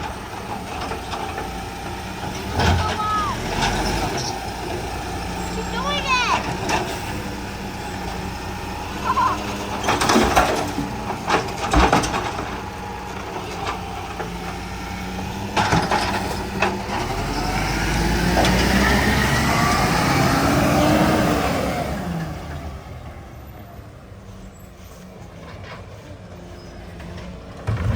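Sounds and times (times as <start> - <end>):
garbage truck engine: 0.0 - 27.9.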